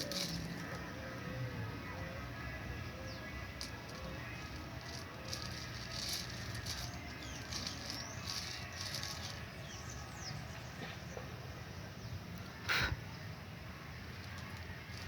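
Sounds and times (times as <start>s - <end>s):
birds chirping and chattering: 0.0s - 15.0s.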